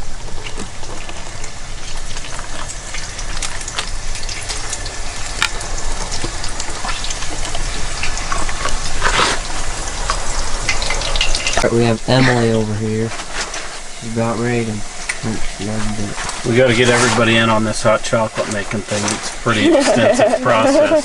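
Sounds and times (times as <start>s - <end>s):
liquid being poured: 0.0s - 20.9s
food sizzling on camp stove: 0.0s - 21.0s.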